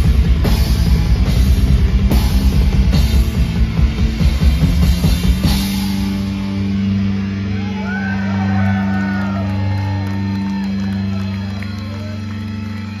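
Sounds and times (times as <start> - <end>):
distorted guitar and bass chord: 0.0 - 11.2
metal band playing live: 0.0 - 13.0.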